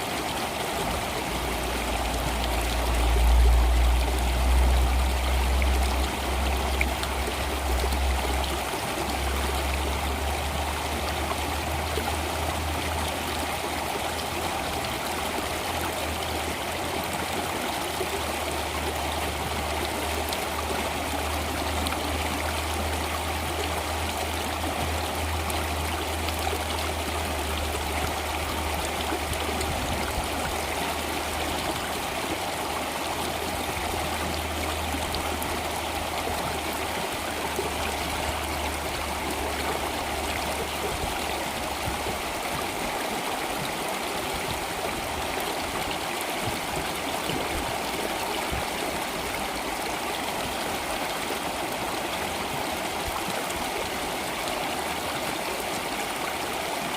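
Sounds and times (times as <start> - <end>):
low steady hum: 0.0 - 45.9
stream water flowing: 0.0 - 56.9.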